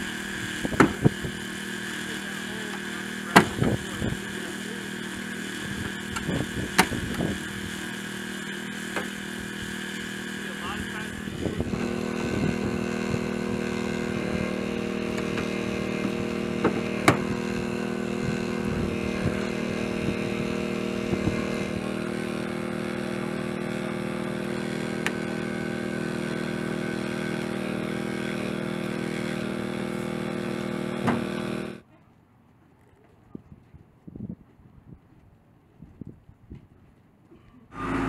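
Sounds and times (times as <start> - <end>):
engine running steadily: 0.0 - 32.0, 36.0 - 38.0.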